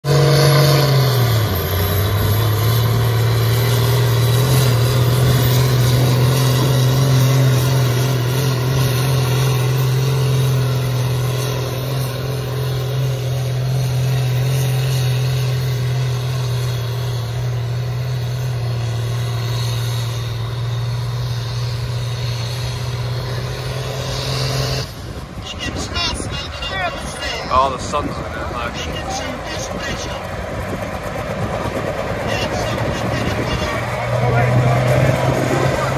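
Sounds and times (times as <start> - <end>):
tractor diesel engine under full load: 0.0 - 35.9.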